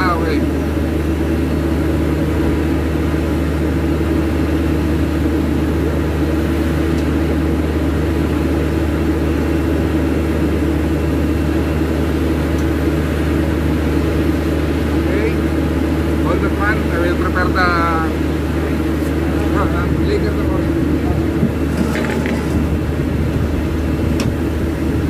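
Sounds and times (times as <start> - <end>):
low machinery hum: 0.0 - 25.0.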